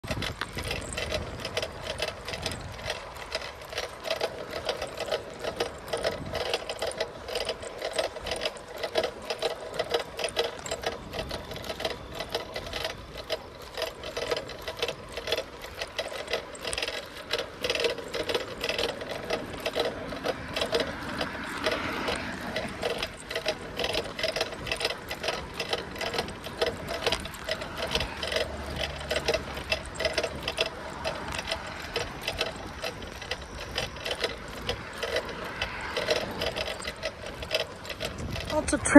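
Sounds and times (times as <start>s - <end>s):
bicycle ticking and rattling: 0.0s - 38.9s.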